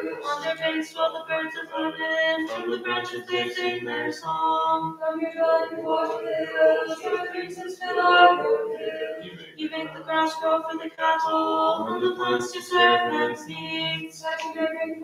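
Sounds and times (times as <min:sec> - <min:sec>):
voices chanting together: 0:00.0 - 0:15.0.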